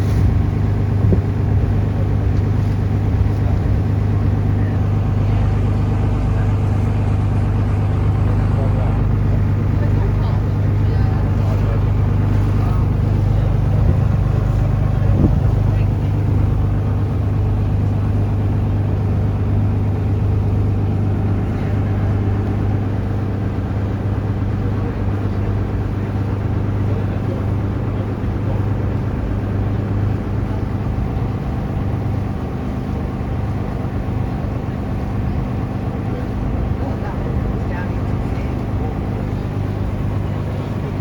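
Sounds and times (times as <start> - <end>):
boat engine droning: 0.0 - 41.0
broad rushing noise: 0.0 - 41.0.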